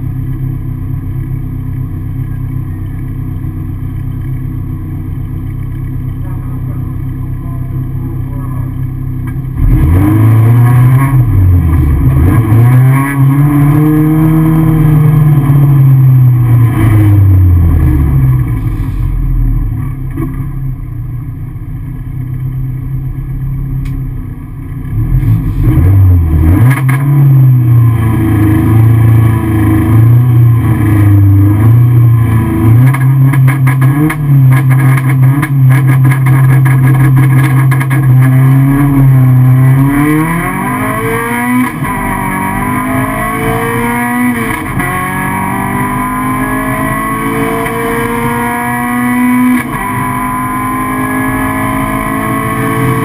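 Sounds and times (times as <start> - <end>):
rally car engine revving: 1.3 - 20.8, 24.6 - 53.0.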